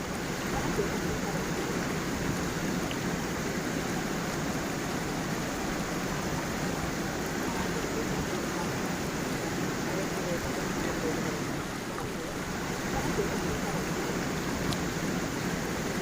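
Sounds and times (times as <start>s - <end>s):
water flowing over stones: 0.0s - 16.0s.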